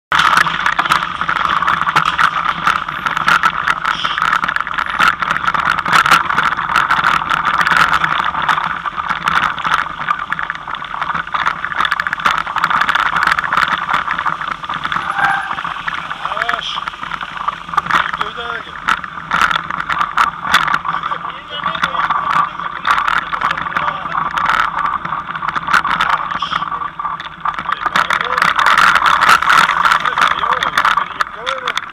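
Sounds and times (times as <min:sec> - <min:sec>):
bike clicks and rattles: 0:00.1 - 0:31.9
bike riding rushing noise: 0:00.1 - 0:31.9.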